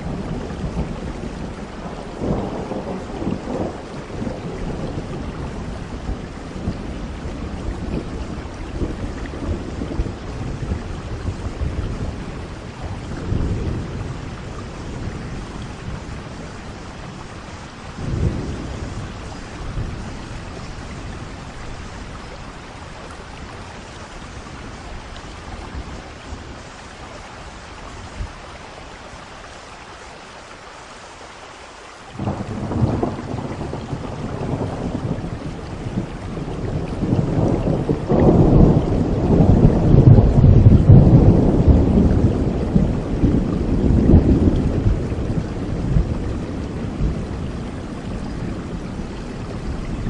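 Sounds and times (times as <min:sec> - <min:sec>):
rolling thunder: 0:00.0 - 0:26.7, 0:32.2 - 0:50.0
steady rain: 0:00.0 - 0:50.0.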